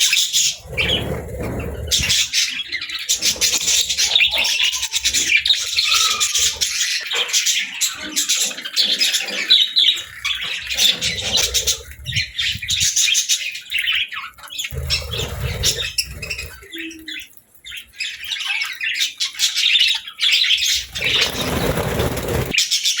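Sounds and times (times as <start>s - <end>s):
budgerigars chirping: 1.6s - 22.9s.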